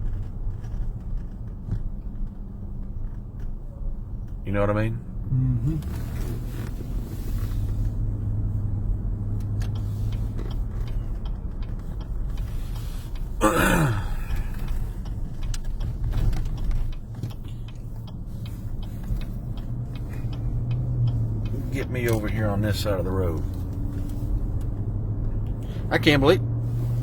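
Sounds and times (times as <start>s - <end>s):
engine and road hum: 0.0s - 27.0s.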